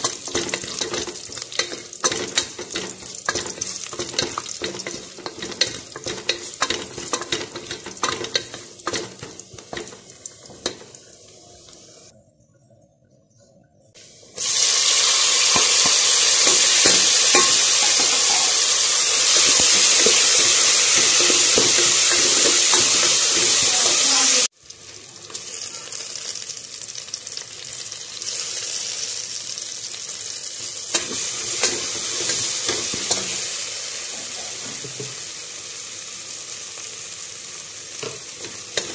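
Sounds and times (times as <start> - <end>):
hot oil crackling: 0.0 - 12.1, 14.2 - 38.9
tomatoes sizzling in oil: 0.0 - 12.1, 14.0 - 38.9.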